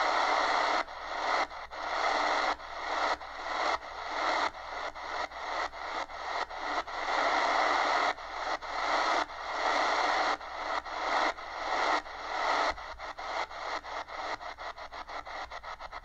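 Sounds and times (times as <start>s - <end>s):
shortwave radio static: 0.0s - 16.0s.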